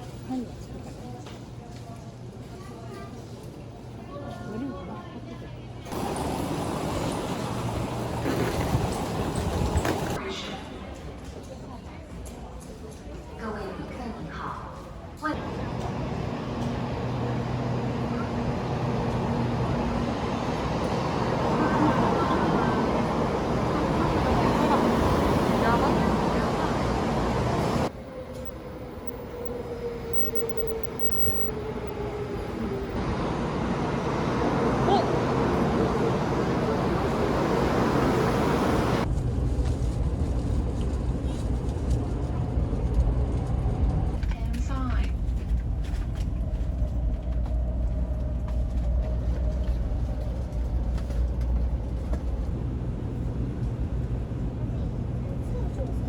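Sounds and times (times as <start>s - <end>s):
train rumble and whine: 0.0s - 56.0s.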